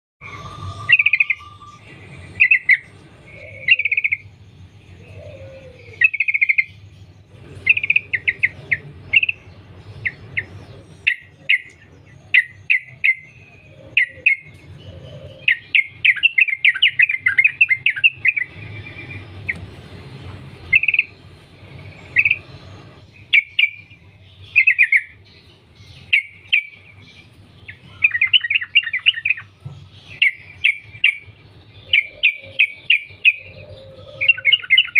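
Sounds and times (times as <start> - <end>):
bulbul singing chattering phrases: 0.2 - 34.9.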